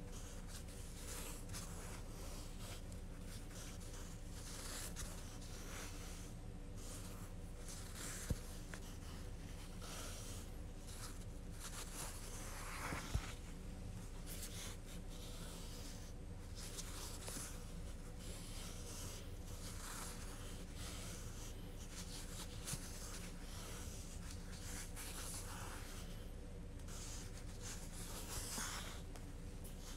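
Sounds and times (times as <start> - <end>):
fingers rustling yarn: 0.0 - 29.9
steady low hum: 0.0 - 29.9.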